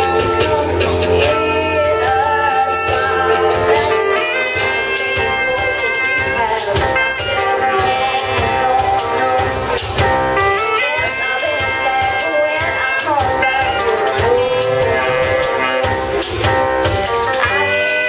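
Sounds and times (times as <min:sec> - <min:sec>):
woman singing: 0:00.0 - 0:16.3, 0:17.0 - 0:18.0
bass guitar: 0:00.0 - 0:18.0
drums: 0:00.0 - 0:18.0
electric guitar: 0:00.0 - 0:18.0
keyboard: 0:00.0 - 0:18.0
saxophone: 0:00.0 - 0:18.0.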